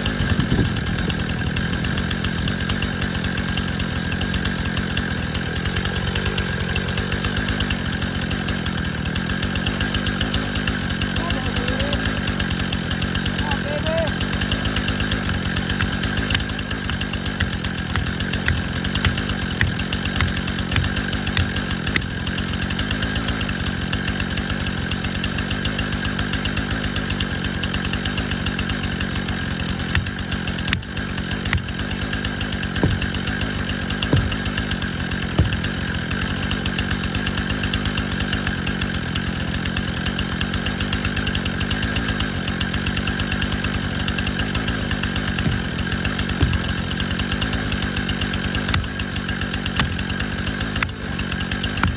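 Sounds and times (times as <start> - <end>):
chainsaw running at high revs: 0.0 - 51.9.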